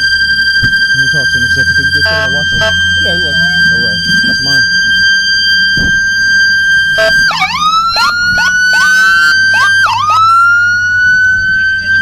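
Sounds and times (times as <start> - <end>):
police siren wailing: 0.0 - 12.0.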